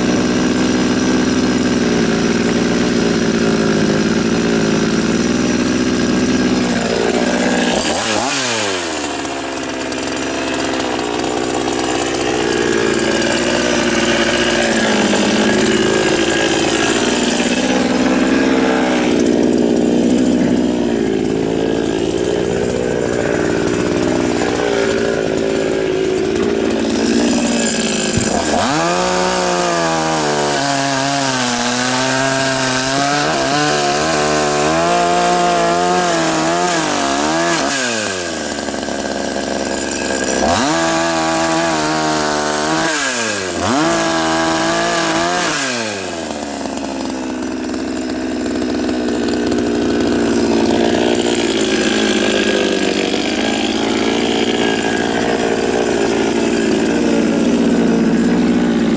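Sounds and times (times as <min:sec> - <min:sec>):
chainsaw cutting logs: 0:00.0 - 0:58.9.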